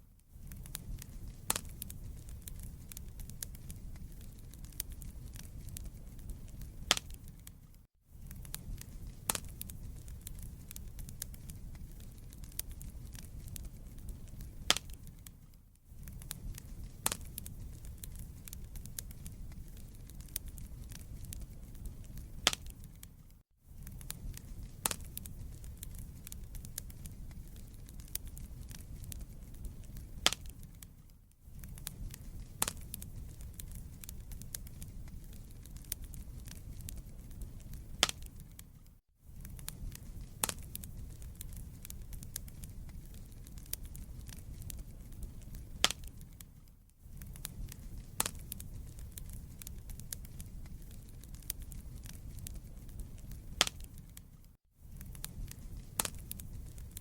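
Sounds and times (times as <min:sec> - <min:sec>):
fire popping and snapping: 0:00.0 - 0:57.0
low rumble of flames: 0:00.0 - 0:57.0.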